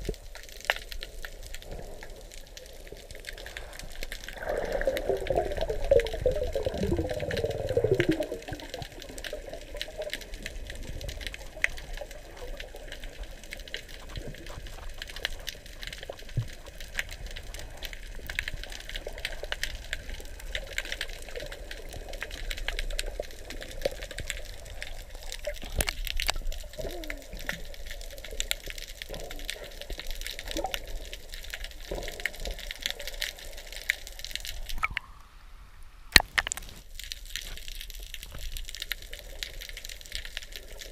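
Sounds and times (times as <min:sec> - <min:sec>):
underwater clicking crackle: 0:00.0 - 0:35.3, 0:36.1 - 0:40.9
water rushing underwater: 0:00.0 - 0:40.9.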